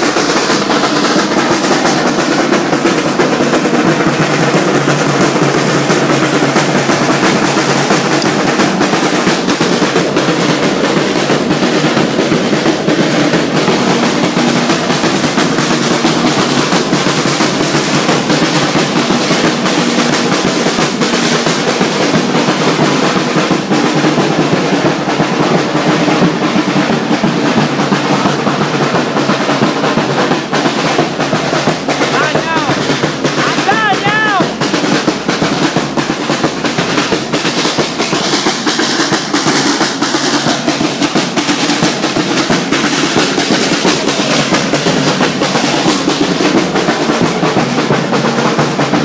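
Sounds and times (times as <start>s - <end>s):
snare drums rolling: 0.0s - 49.0s.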